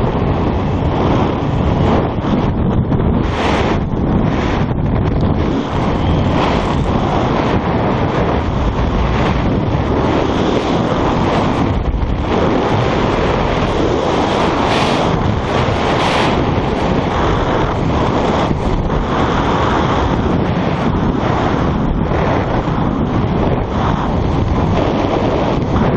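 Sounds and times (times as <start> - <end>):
strong wind on microphone: 0.0 - 25.9.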